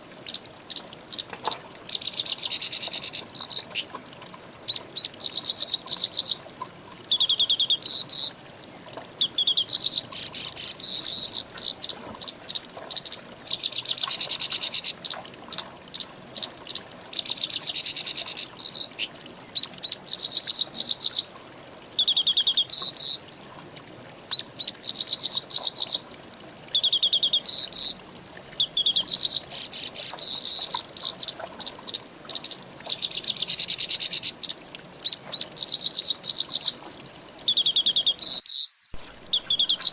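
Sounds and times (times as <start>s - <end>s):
songbird chirping and trilling: 4.7s - 23.5s, 24.3s - 39.9s.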